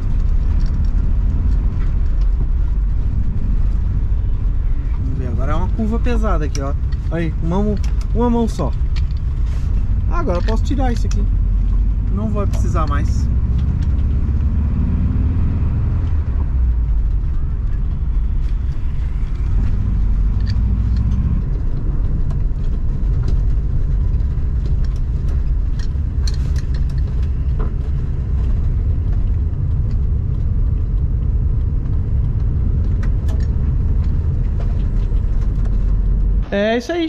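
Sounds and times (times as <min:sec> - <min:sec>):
van engine and road rumble: 0:00.0 - 0:37.0.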